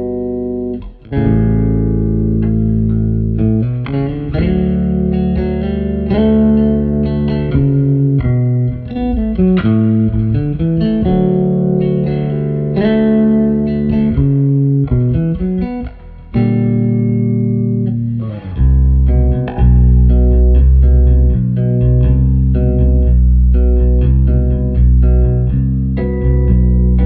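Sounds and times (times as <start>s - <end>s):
electric bass playing melodically: 0.0s - 27.0s.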